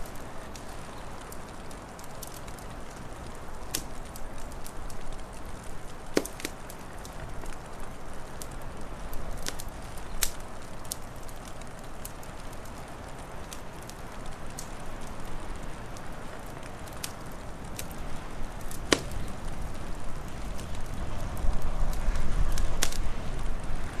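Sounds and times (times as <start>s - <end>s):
sharp pops of fire: 0.0s - 23.6s
wood fire crackling: 0.0s - 24.0s.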